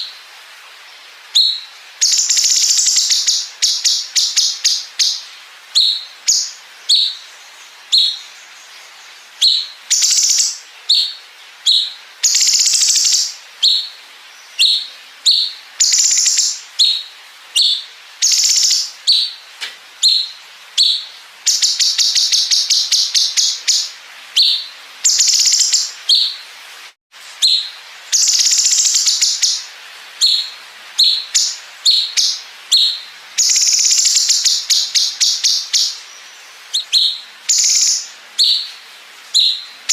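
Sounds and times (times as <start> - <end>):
buzzy bird phrases: 0.0 - 39.9
bird song: 0.9 - 26.5, 27.2 - 39.9.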